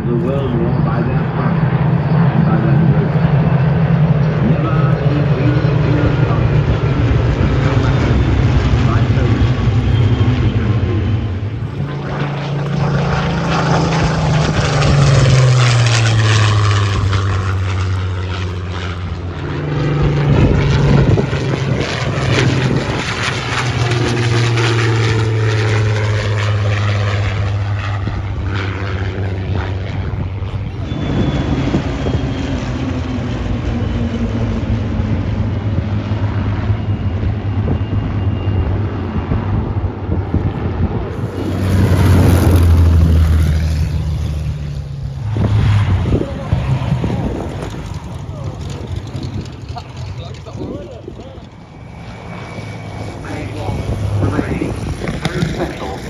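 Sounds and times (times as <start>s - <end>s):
propeller aircraft engines droning: 0.0s - 56.0s.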